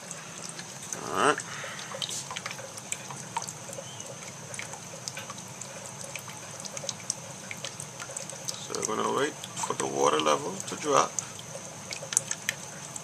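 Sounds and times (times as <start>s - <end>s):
water drips and splashes: 0.0s - 13.0s
water trickling from boiler: 0.0s - 13.0s.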